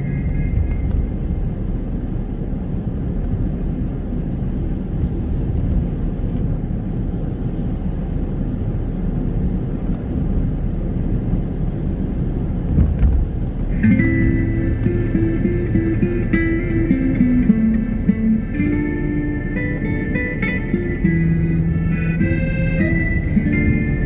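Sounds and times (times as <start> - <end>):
car tyres and engine rumble: 0.0 - 24.0.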